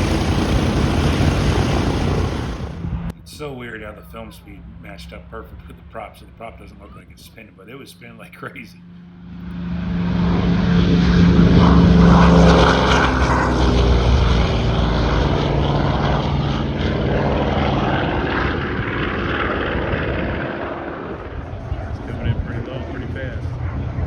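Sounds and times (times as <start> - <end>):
propeller airplane passing overhead: 0.0 - 24.0.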